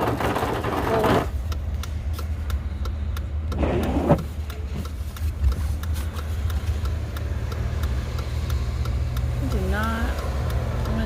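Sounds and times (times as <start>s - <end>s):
light ticking: 1.3s - 11.0s.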